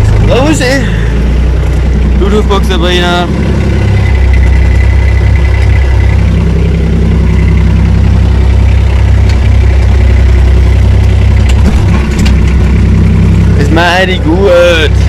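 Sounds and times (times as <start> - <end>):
tractor engine deep hum: 0.0 - 15.0.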